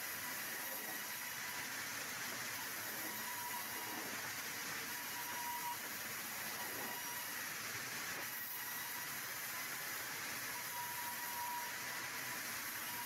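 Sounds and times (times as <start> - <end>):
thin machine whine: 0.0 - 13.0.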